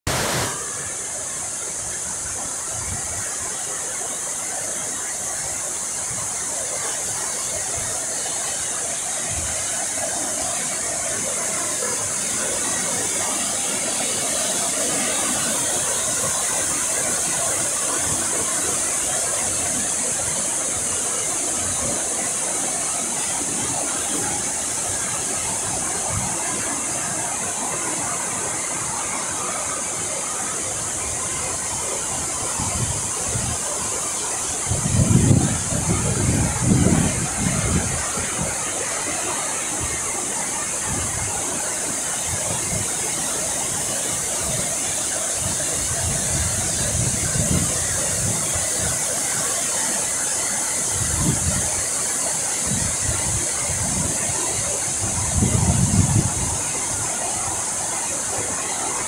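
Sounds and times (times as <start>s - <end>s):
water cascading down weir: 0.1s - 59.0s.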